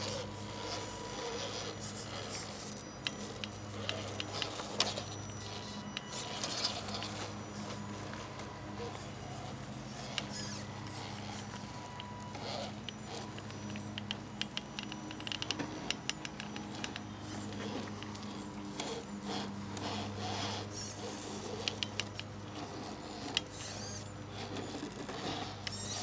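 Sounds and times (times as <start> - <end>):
steady low hum: 0.0 - 26.0
tyres scraping on rocks: 0.0 - 26.0.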